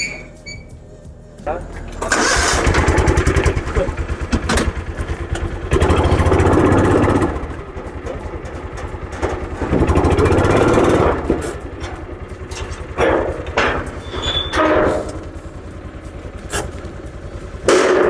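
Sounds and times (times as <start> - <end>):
engine idling and revving: 0.8 - 18.0.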